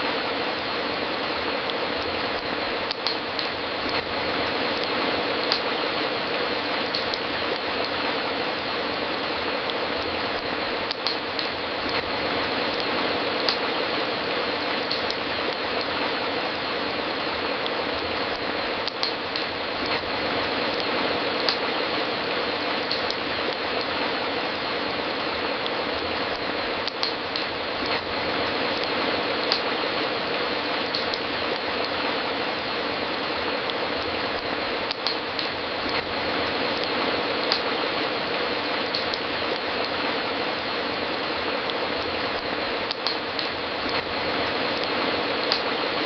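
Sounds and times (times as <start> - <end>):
fireplace fire crackling: 0.0 - 46.0.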